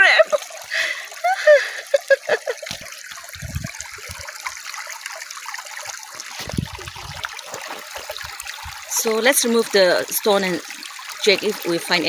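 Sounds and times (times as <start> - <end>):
river water flowing over stones: 0.0 - 12.0.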